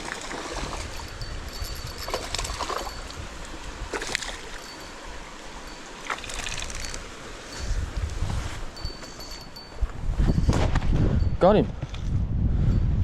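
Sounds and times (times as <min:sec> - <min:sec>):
river water running: 0:00.0 - 0:10.6.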